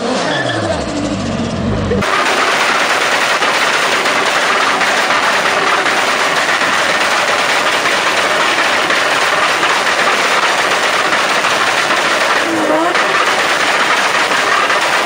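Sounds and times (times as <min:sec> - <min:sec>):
car engine crackling and fluttering: 0:00.0 - 0:15.0.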